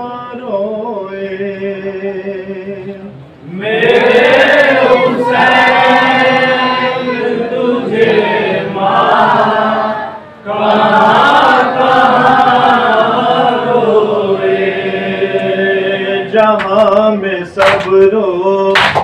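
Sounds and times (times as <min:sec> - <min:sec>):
mourners chanting together: 0:02.8 - 0:18.1.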